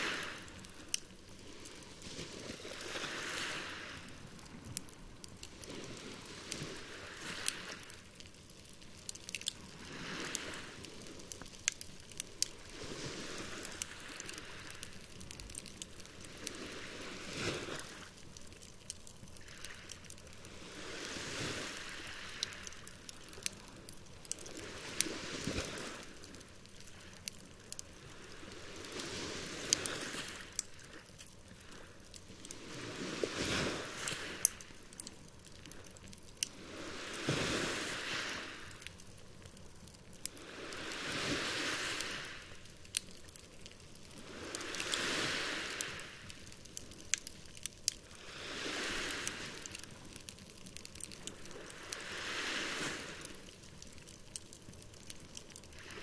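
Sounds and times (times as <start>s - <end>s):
waves washing in: 0.0s - 18.7s, 19.4s - 39.0s, 40.1s - 54.2s, 54.9s - 56.0s
campfire crackling and popping: 0.0s - 56.0s.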